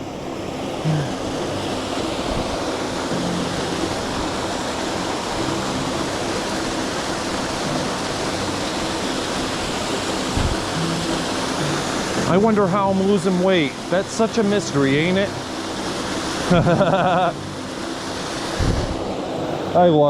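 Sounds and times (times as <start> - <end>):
brook and waterfall rushing: 0.0 - 20.0.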